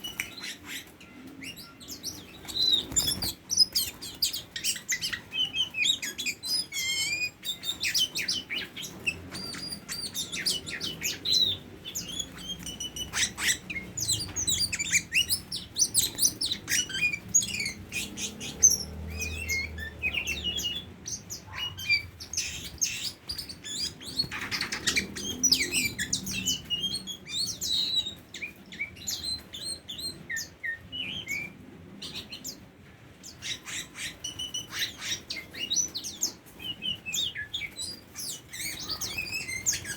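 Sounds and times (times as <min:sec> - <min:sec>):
bird singing chirps and whistles: 0:00.0 - 0:32.6, 0:33.3 - 0:39.9.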